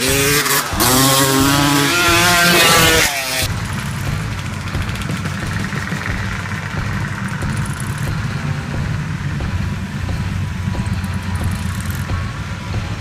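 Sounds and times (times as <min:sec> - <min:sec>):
dirt bike engines rumbling: 0:00.0 - 0:13.0.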